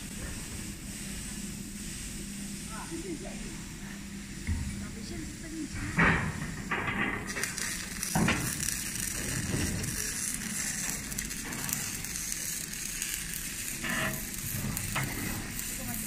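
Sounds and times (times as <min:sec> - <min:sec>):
steady crackling hiss: 0:00.0 - 0:16.0.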